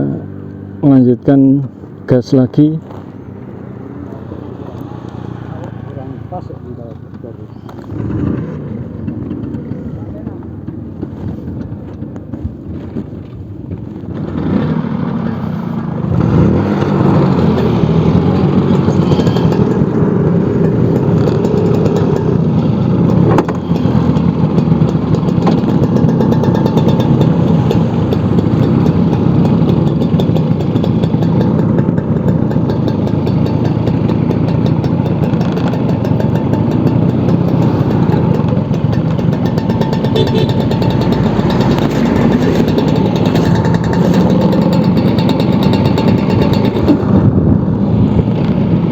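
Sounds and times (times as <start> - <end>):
scooter engine running: 2.9 - 48.9.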